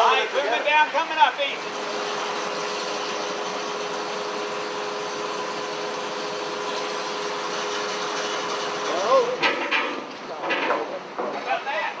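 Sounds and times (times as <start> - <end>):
crane engine droning: 0.0 - 10.4.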